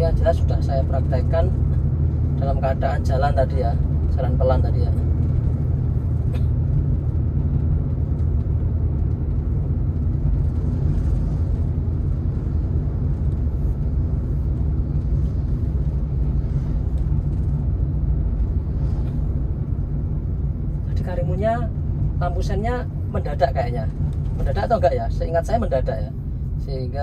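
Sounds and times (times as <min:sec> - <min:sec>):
car engine rumble: 0:00.0 - 0:27.0.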